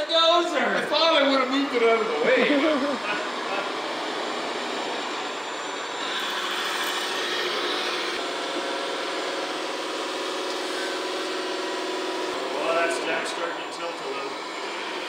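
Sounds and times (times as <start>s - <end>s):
rc models whirring: 0.0s - 15.0s.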